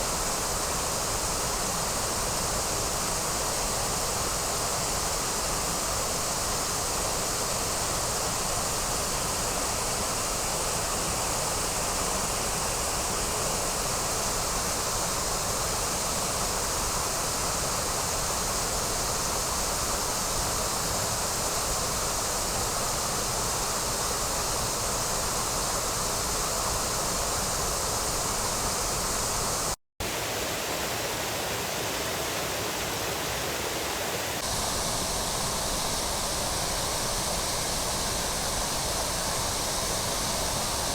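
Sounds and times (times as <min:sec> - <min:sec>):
waterfall pouring and splashing: 0:00.0 - 0:40.9.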